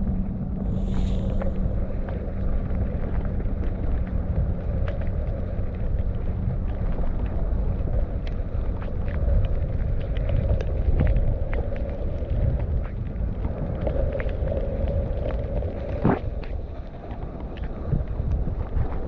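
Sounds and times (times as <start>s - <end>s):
low rumble of bike riding: 0.0s - 19.0s
wind rushing on microphone: 0.0s - 19.0s.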